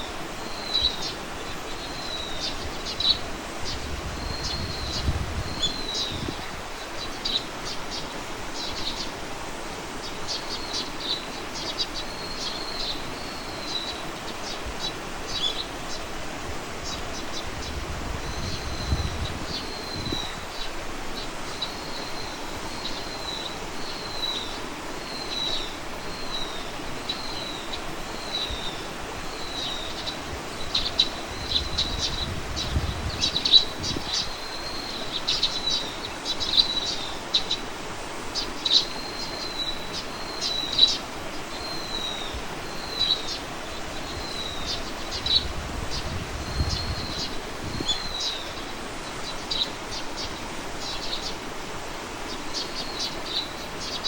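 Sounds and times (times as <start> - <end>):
outdoor hiss: 0.0 - 54.0.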